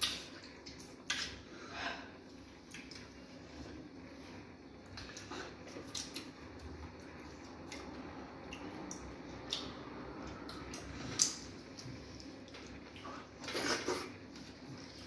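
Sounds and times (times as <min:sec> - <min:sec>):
people chewing with lip smacks: 0:00.0 - 0:01.5, 0:02.1 - 0:15.0.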